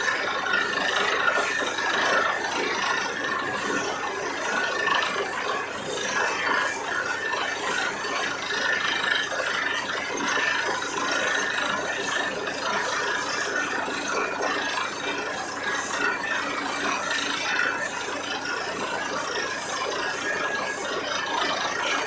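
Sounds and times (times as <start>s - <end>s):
drilling rig running: 0.0s - 22.0s.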